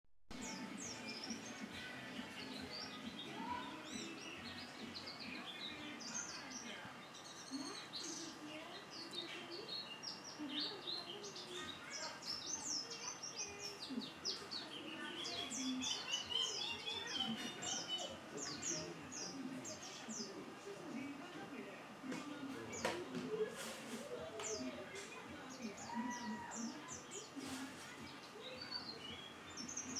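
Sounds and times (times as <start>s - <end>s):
songbird chirping and twittering: 0.3s - 29.9s.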